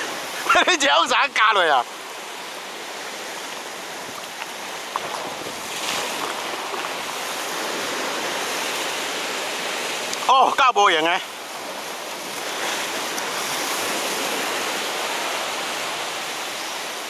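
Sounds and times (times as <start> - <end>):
sea surf washing against rocks: 0.0 - 17.0.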